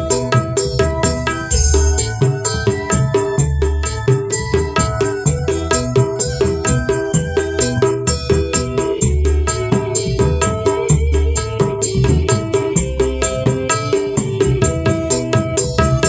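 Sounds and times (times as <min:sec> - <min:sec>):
backing music with pulsing bass: 0:00.0 - 0:16.0
hand drum strokes: 0:00.0 - 0:16.0.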